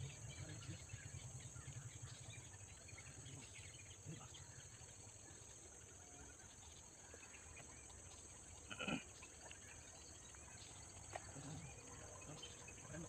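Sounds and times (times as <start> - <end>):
faint insect chirring: 0.0 - 13.0.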